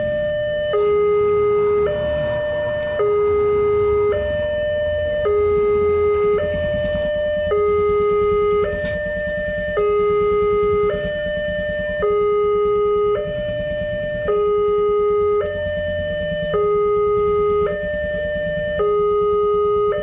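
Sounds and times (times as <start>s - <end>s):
two-tone level crossing alarm: 0.0s - 20.0s.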